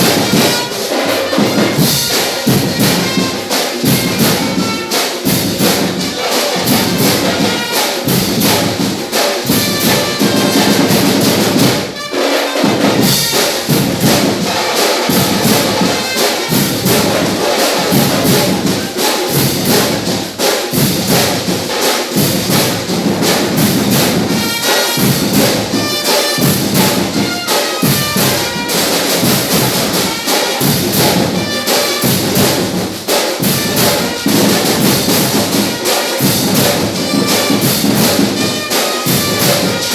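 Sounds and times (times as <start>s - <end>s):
brass instruments playing melody: 0.0s - 39.9s
marching drums beat: 0.0s - 39.9s.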